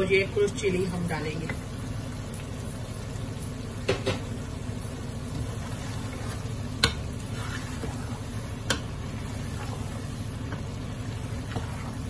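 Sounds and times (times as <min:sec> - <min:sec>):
food frying in a metal pan: 0:00.0 - 0:12.0.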